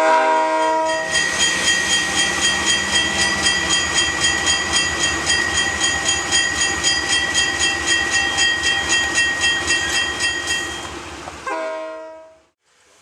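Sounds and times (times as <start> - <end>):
train rumble: 0.0 - 12.2
locomotive bell ringing: 0.5 - 11.2.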